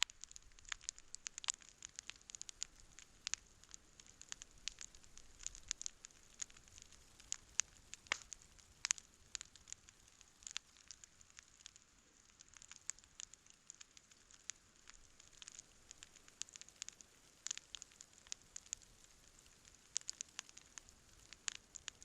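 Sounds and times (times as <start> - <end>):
campfire crackling and popping: 0.0 - 22.0
faint fire hiss: 0.0 - 22.0.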